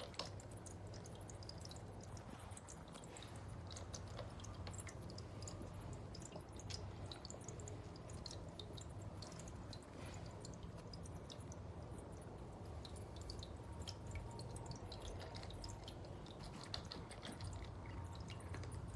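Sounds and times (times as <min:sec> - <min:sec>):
pump humming: 0:00.0 - 0:18.9
water dripping and trickling: 0:00.0 - 0:18.9.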